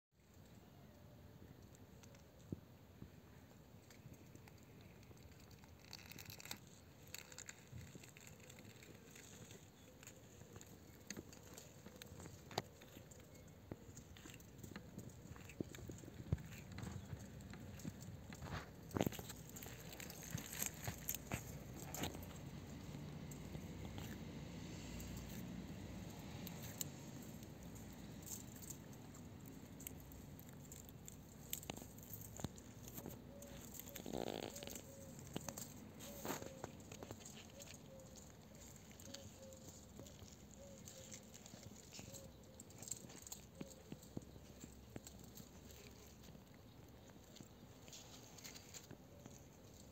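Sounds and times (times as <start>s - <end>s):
tortoise crawling on dry soil: 0.2s - 49.9s.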